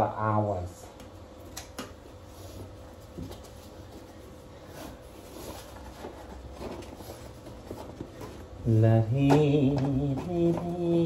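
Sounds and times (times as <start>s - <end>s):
faint steady hum: 0.0s - 11.0s
wallpaper rustling and scratching: 2.1s - 11.0s.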